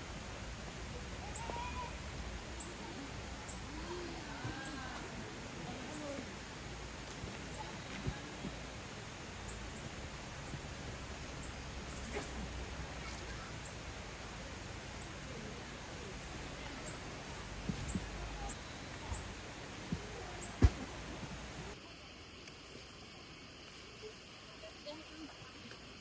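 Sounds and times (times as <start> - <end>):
small birds chirping: 0.0 - 21.8
steady background noise: 0.0 - 26.0.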